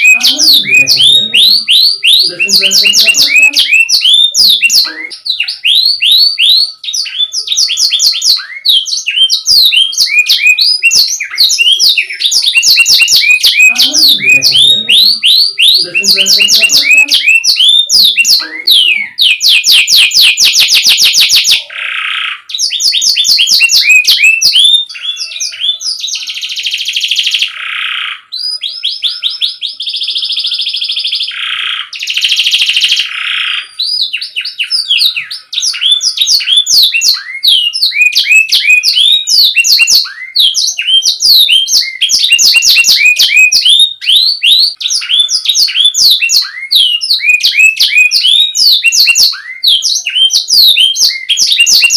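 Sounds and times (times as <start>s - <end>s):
canary singing: 0.0s - 51.9s.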